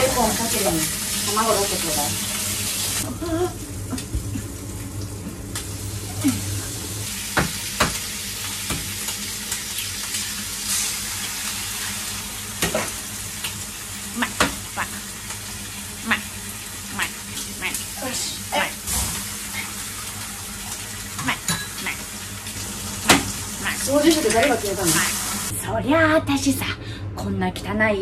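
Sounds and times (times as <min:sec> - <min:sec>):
frying pan sizzling: 0:00.0 - 0:25.6.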